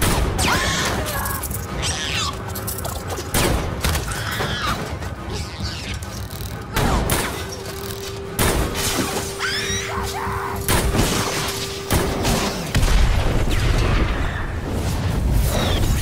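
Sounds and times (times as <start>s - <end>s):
action film music: 0.0s - 16.0s.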